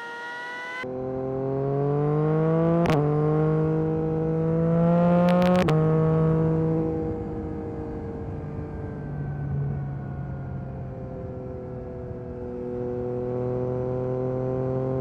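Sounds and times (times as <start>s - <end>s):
motorcycle engine accelerating: 0.0s - 8.7s, 11.2s - 15.0s.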